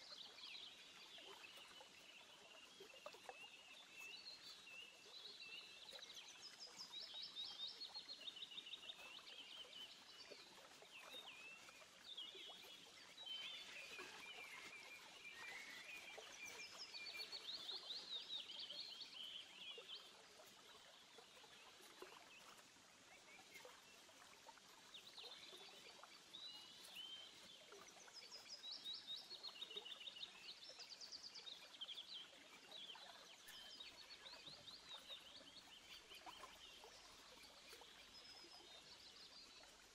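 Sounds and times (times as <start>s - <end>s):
faint birdsong chirps and trills: 0.0s - 39.9s.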